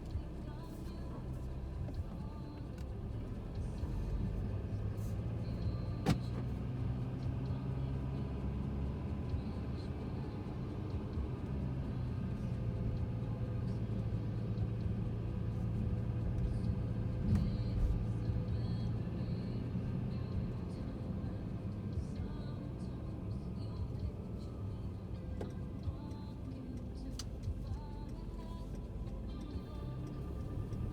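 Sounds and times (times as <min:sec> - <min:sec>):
car engine drone: 0:00.0 - 0:30.9
road rumble: 0:00.0 - 0:30.9.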